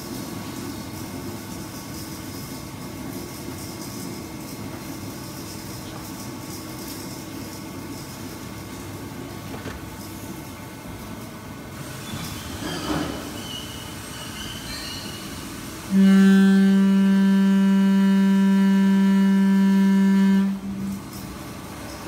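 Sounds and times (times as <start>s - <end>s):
welding machine hum and hiss: 0.0s - 22.0s.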